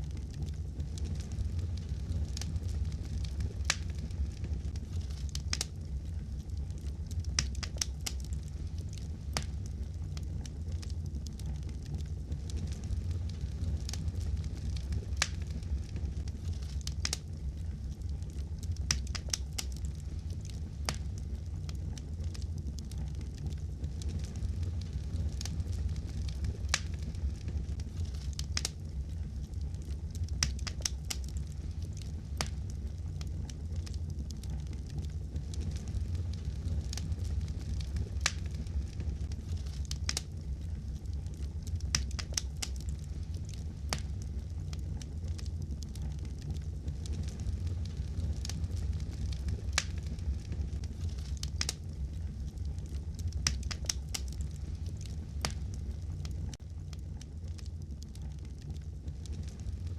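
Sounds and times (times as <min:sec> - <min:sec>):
sharp pops and snaps: 0:00.0 - 0:59.9
wood fire crackling: 0:00.0 - 0:59.9.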